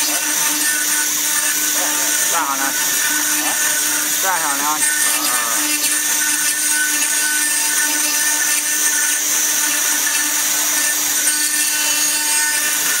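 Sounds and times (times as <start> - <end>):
router cutter grinding stone: 0.0 - 13.0.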